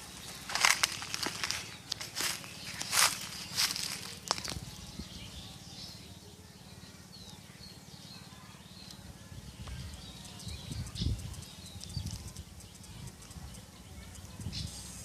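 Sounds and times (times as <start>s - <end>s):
birds chirping: 0.0s - 15.0s
low outdoor background noise: 0.0s - 15.0s.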